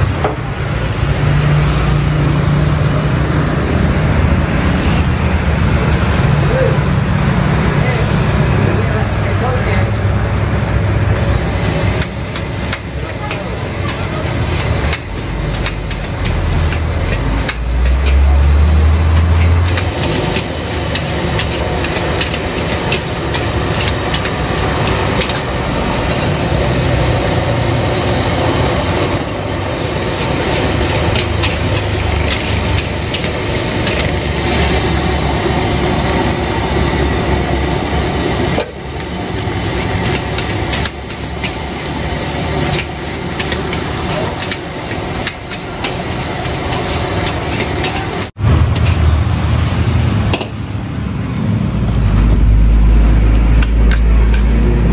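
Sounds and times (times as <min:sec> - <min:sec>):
rice sizzling in a wok: 0:00.0 - 0:54.7.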